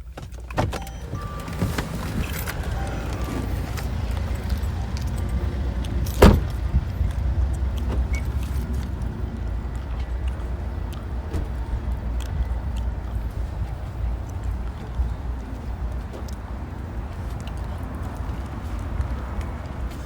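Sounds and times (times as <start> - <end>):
car rumbling: 0.0 - 20.0.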